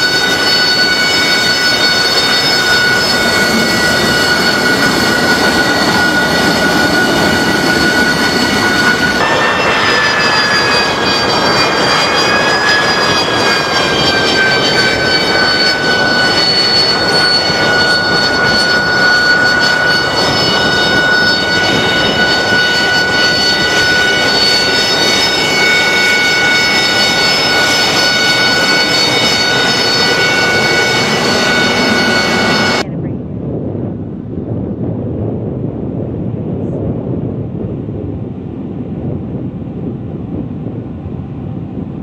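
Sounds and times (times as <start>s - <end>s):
jet engine roar with whine: 0.0s - 42.0s.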